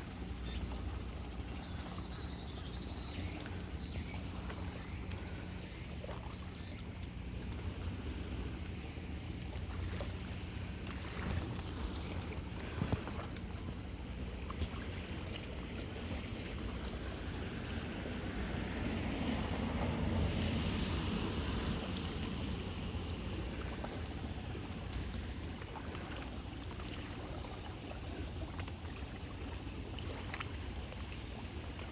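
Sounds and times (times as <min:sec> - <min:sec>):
sea water washing at shore: 0:00.0 - 0:31.9.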